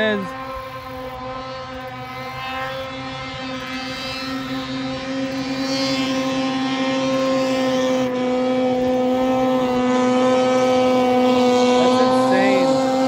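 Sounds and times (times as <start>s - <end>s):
snowmobile engine at high revs: 0.0s - 13.0s.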